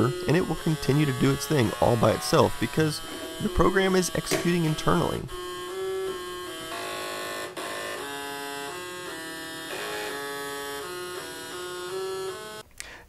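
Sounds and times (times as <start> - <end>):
floppy drive motor buzzing tune: 0.0 - 12.6.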